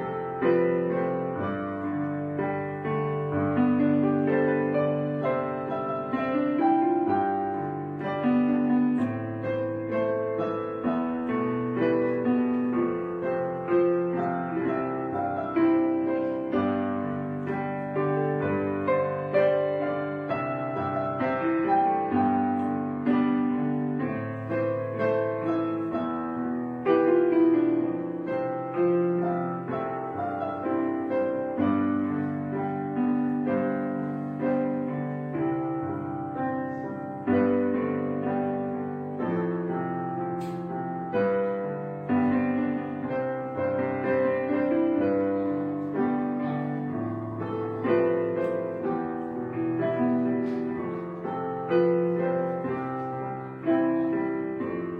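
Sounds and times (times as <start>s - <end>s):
gentle solo piano: 0.0s - 54.9s.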